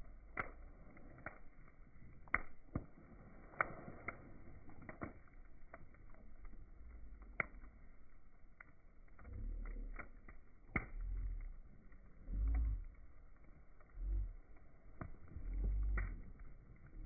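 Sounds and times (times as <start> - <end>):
burning wood crackling and popping: 0.0 - 17.0
soft low rush of fire: 0.0 - 17.0.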